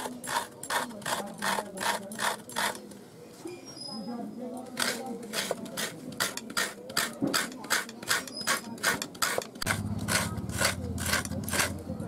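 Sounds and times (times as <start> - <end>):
coconut rasping on grater: 0.0 - 2.8, 4.8 - 12.0.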